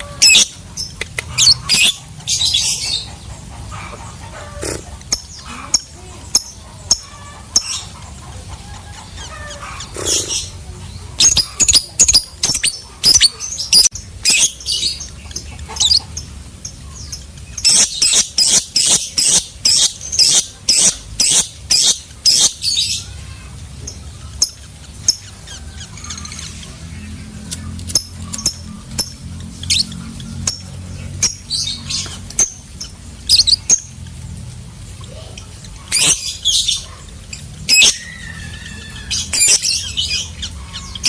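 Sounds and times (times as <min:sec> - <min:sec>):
lovebird chirping: 0:00.0 - 0:03.2, 0:09.0 - 0:23.1, 0:23.9 - 0:34.2, 0:35.1 - 0:41.0.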